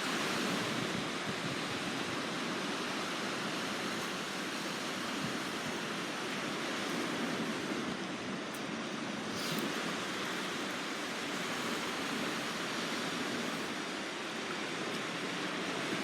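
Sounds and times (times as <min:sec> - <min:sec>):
sea surf on shore: 0:00.0 - 0:16.0.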